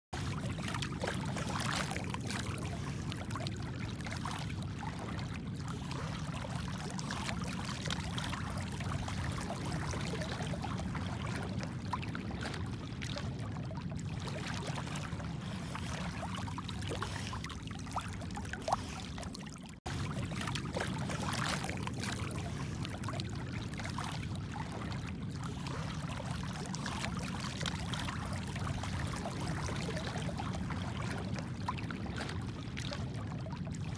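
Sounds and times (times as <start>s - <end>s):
sea water sloshing and splashing: 0.1s - 33.9s.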